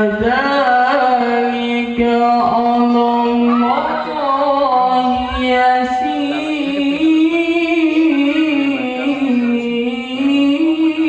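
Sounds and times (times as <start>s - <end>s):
person chanting melodic recitation: 0.0s - 11.0s.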